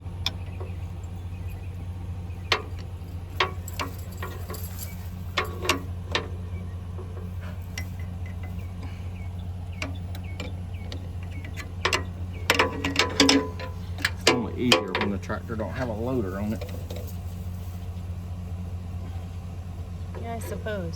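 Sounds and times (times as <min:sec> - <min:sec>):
metallic clicks and clanks: 0:00.0 - 0:17.4
steady low hum: 0:00.0 - 0:20.9.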